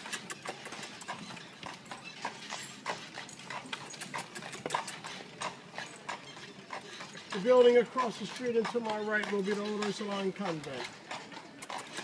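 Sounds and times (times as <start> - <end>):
hooves clip-clopping on pavement: 0.0 - 12.0.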